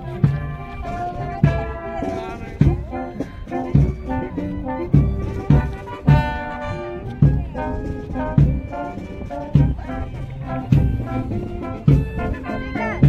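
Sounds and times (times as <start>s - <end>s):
brass band trombones and trumpets: 0.0s - 13.0s
heavy drum beat: 0.0s - 13.0s.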